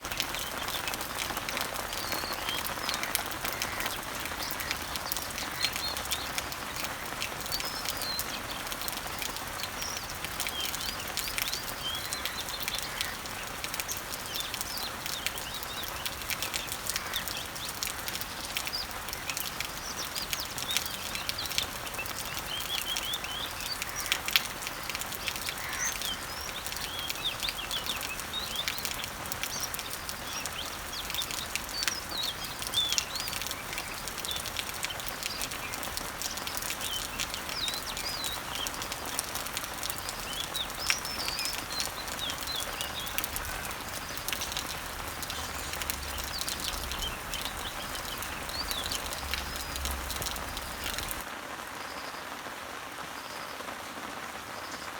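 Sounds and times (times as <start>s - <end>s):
rain on leaves: 0.0s - 54.9s
birds chirping: 0.1s - 51.3s.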